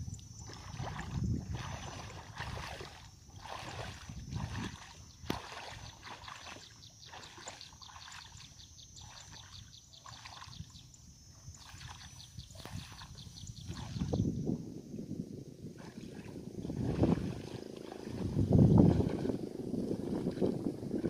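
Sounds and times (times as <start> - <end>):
water sloshing from wading: 0.0 - 14.4, 15.7 - 21.0.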